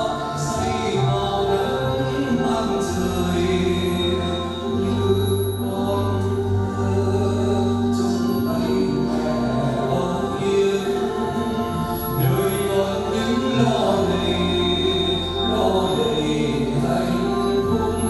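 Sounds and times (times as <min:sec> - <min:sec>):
choir singing a slow hymn: 0:00.0 - 0:18.0
held accompaniment chords: 0:00.0 - 0:18.0.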